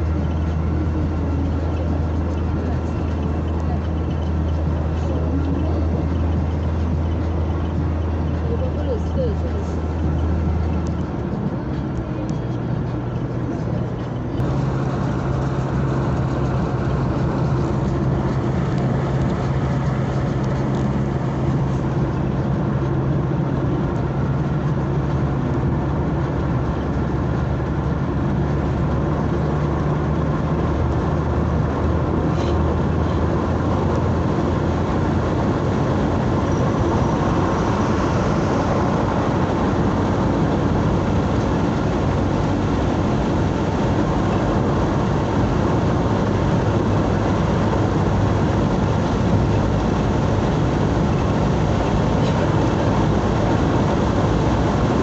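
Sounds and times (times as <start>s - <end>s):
engine hum: 0.0s - 55.0s.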